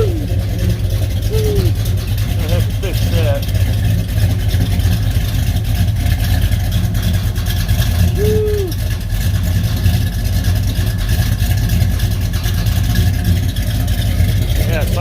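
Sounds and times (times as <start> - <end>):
car engine idling: 0.0 - 15.0
tailpipe rattling: 0.0 - 15.0.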